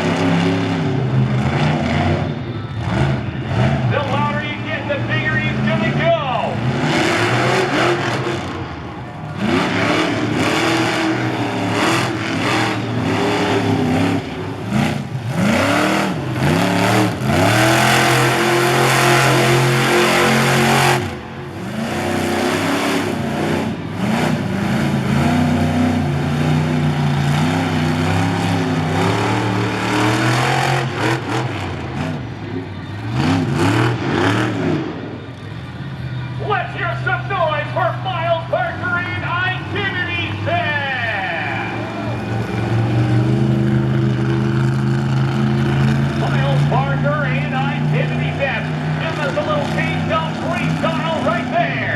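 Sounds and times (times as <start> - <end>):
monster truck engine revving: 0.0 - 51.9.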